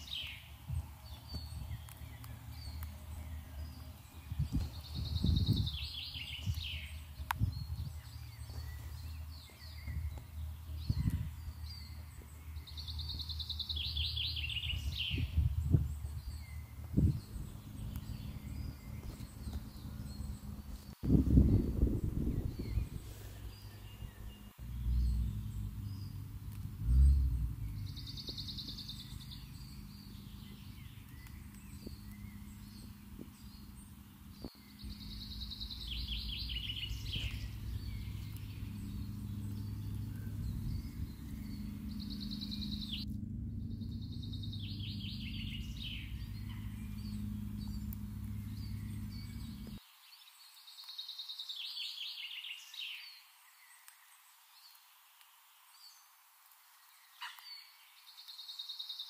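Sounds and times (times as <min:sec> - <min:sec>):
low rumble: 0:00.0 - 0:49.8
songbird trilling: 0:00.0 - 0:49.8.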